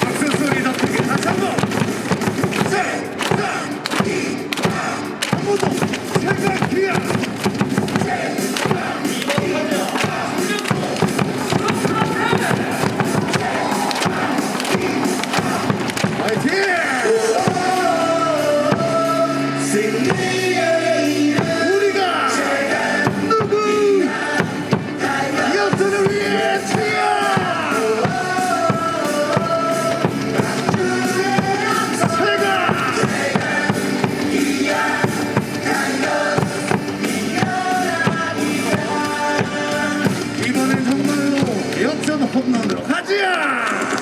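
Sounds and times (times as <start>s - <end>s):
cheer song over loudspeakers: 0.0s - 44.0s.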